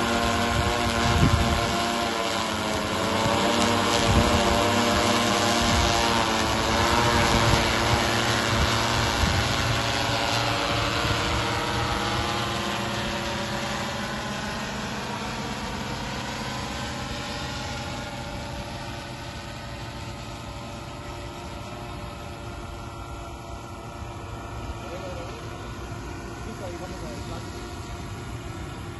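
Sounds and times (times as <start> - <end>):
drone propellers buzzing: 0.0 - 28.9.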